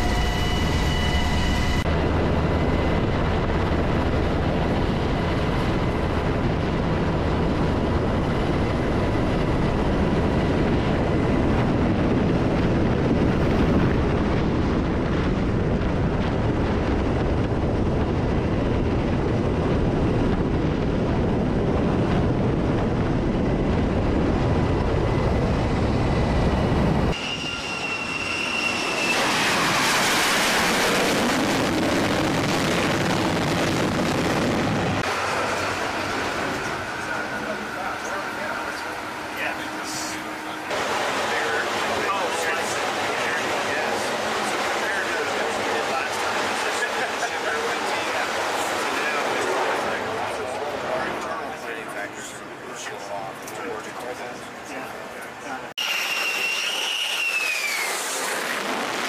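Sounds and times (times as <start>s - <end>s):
aircraft engine and airflow noise: 0.0s - 59.0s
jet engine rush with high whine: 0.0s - 59.0s.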